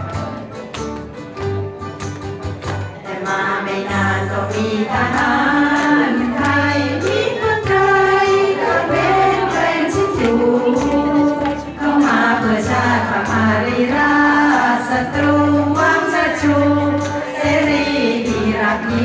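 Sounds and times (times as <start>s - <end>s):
woman singing into microphone: 3.1s - 19.0s.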